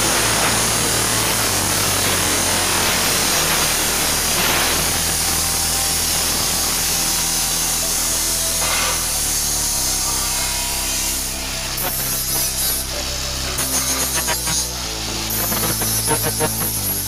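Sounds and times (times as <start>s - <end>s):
chop saw grinding steel: 0.0s - 17.0s.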